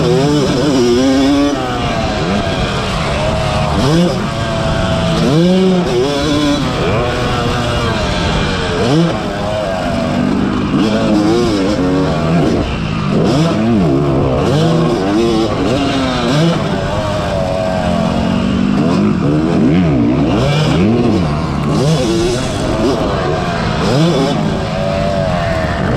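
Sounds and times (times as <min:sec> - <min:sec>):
motorbike engine revving: 0:00.0 - 0:25.9.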